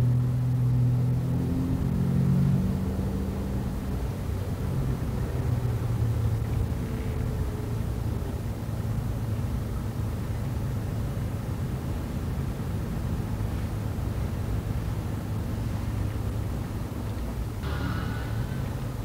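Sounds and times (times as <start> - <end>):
car engine and road noise hum: 0.0 - 19.0.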